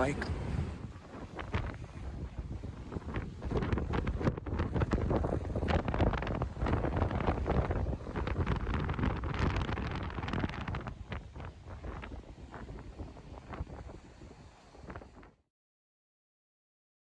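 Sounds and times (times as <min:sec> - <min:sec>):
wind gusting on microphone: 0:00.0 - 0:15.4.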